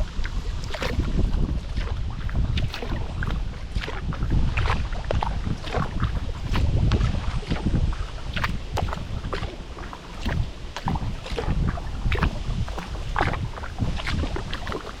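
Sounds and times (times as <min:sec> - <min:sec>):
kayak paddles splashing water: 0:00.0 - 0:15.0
wind on microphone: 0:00.0 - 0:15.0.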